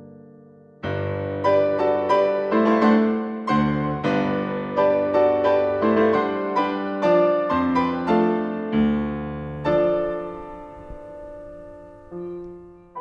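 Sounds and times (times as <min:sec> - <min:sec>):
solo piano: 0:00.0 - 0:13.0.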